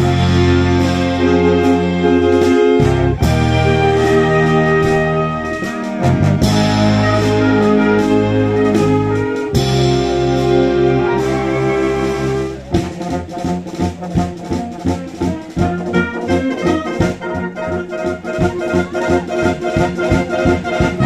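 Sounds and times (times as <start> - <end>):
wind band playing: 0.0 - 21.0.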